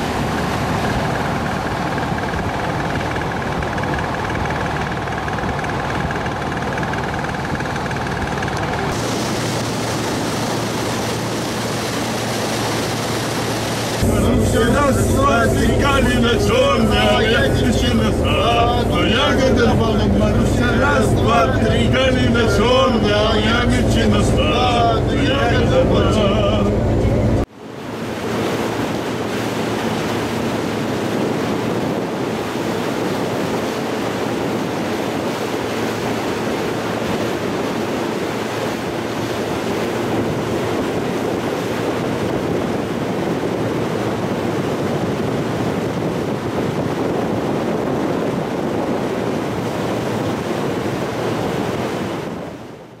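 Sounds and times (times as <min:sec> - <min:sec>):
small waves rushing: 0:00.0 - 0:26.6, 0:27.5 - 0:53.0
wind on microphone: 0:00.0 - 0:53.0.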